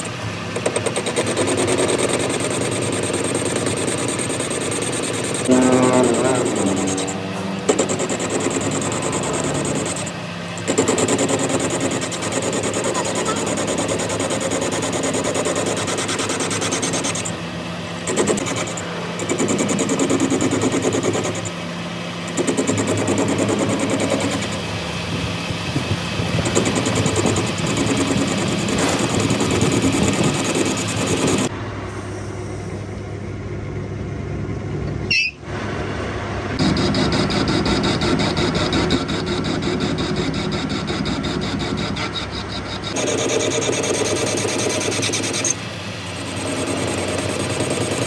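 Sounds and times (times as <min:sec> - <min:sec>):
machinery motor running: 0:00.0 - 0:48.0.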